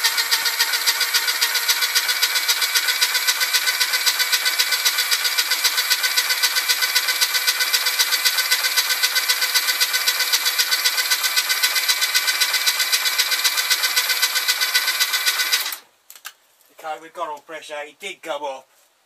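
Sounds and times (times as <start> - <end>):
starter motor cranking engine: 0.0 - 15.8.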